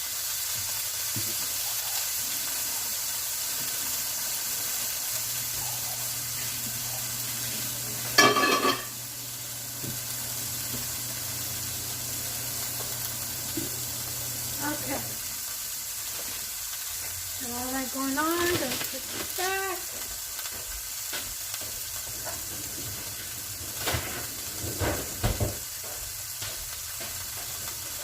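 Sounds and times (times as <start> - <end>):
meat sizzling in hot oil: 0.0 - 28.0.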